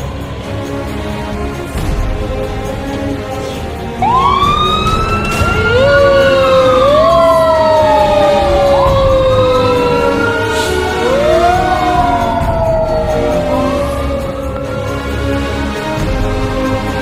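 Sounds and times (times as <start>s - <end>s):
fire truck siren wailing: 2.4s - 17.0s.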